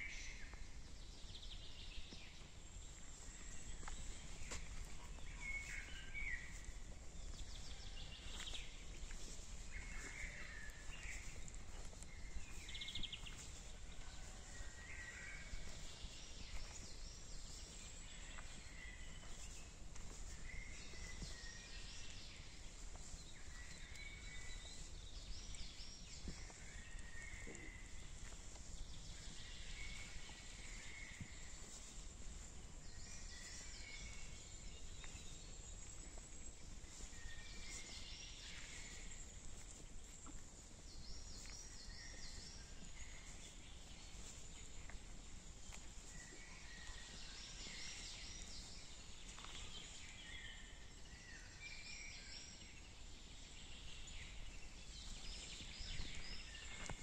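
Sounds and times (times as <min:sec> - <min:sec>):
forest birds singing: 0:00.0 - 0:57.0.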